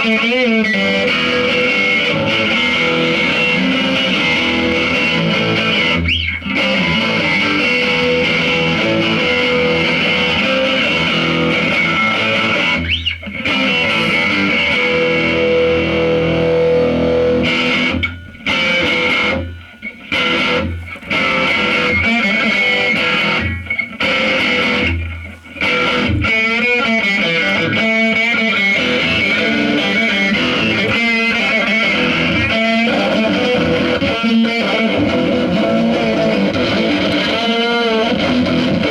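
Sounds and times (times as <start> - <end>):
distorted guitar noise music: 0.0 - 38.9.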